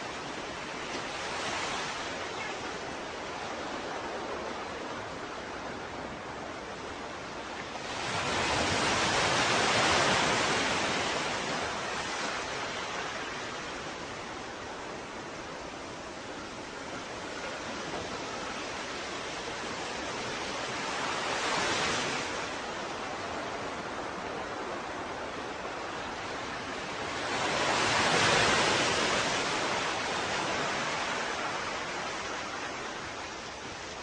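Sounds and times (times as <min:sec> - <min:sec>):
ocean waves breaking: 0:00.0 - 0:34.0.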